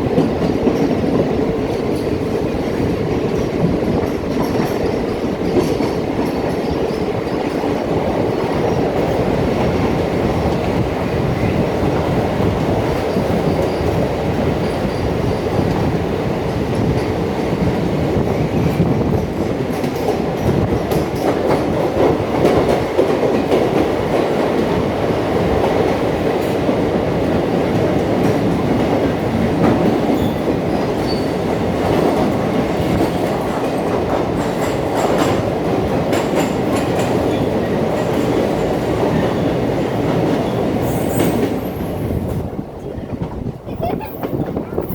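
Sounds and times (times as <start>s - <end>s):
passenger train rumbling: 0.0s - 44.9s.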